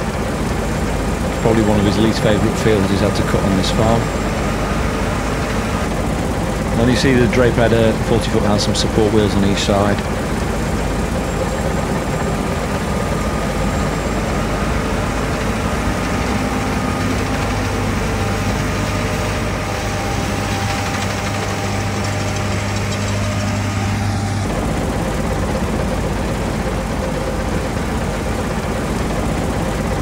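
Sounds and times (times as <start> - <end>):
combine harvester drone: 0.0 - 30.0
low hum: 0.0 - 30.0.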